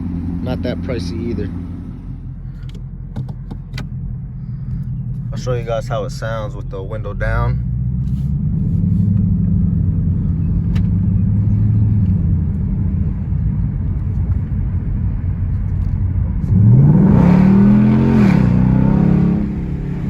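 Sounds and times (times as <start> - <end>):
car engine revving: 0.0 - 14.5, 15.7 - 20.0
low engine note: 0.0 - 20.0.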